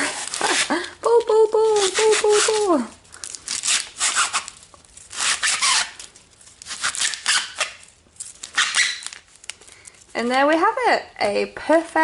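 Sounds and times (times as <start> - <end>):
plastic ribbon rustling: 0.0 - 10.9.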